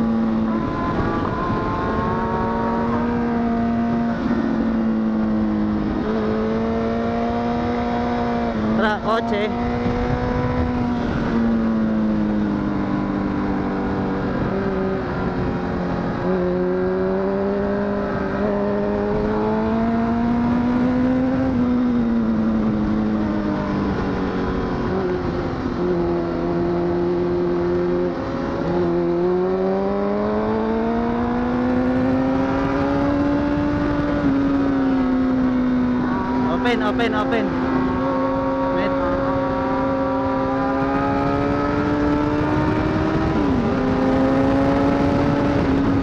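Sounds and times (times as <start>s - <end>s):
motorcycle engine revving: 0.0s - 46.0s
wind rush: 0.0s - 46.0s.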